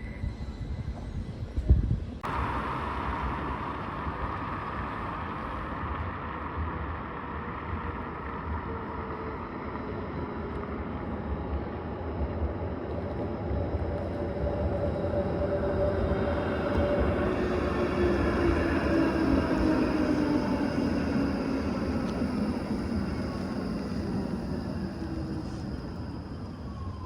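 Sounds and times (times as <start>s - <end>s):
faint whine: 0.0s - 27.0s
rail vehicle rumble: 0.0s - 27.0s.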